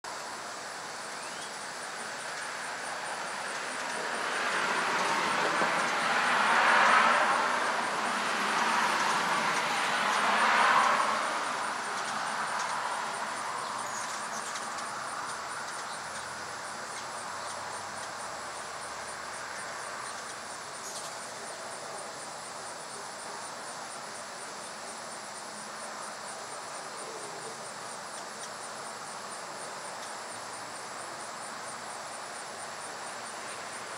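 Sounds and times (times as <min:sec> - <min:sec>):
background hiss: 0:00.0 - 0:33.9
insects pulsing chorus: 0:00.1 - 0:33.9.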